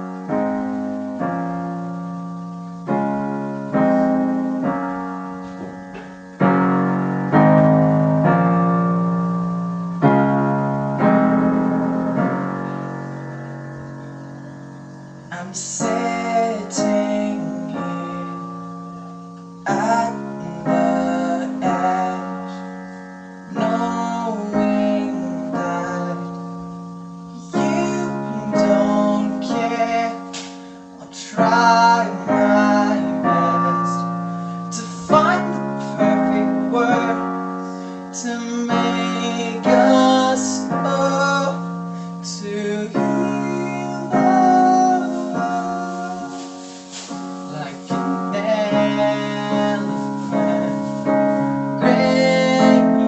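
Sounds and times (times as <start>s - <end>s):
solo piano chords: 0.0s - 53.0s.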